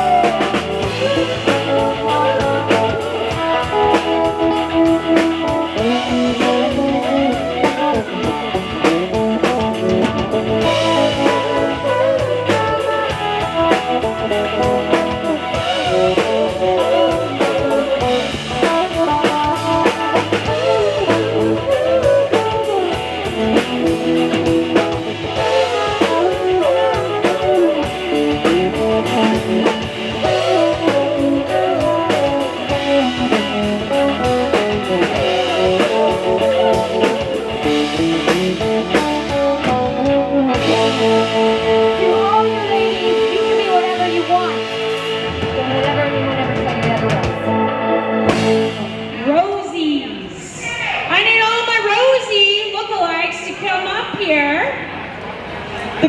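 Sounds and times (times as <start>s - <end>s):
rock music with guitar and drums: 0.0s - 49.9s.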